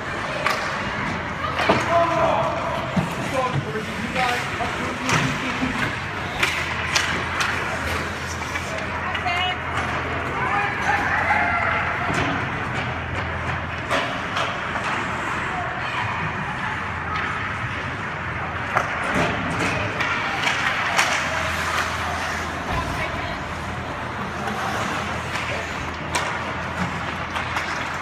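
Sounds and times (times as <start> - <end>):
hockey sticks and puck clacks: 0.0 - 28.0.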